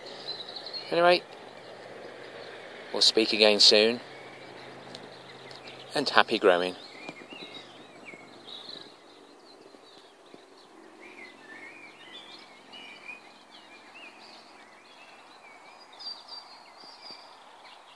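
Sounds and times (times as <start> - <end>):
faint steady background noise: 0.0 - 17.9
small birds chirping and warbling: 0.0 - 17.9.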